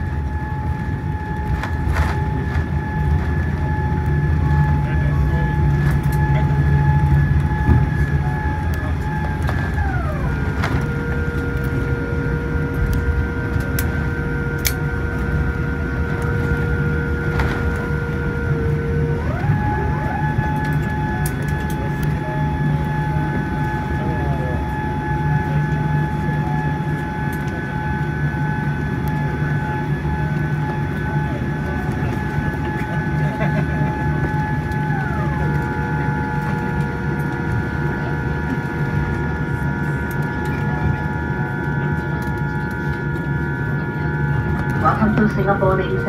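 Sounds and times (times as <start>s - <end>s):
airplane cabin rumble: 0.0s - 46.0s
whine dropping in pitch: 0.0s - 46.0s.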